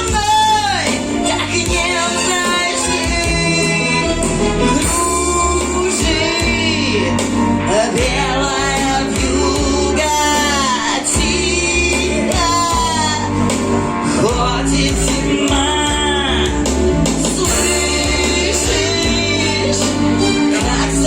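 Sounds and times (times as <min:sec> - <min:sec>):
woman singing with vibrato: 0:00.0 - 0:16.6, 0:17.3 - 0:21.0
instrumental accompaniment: 0:00.0 - 0:21.0.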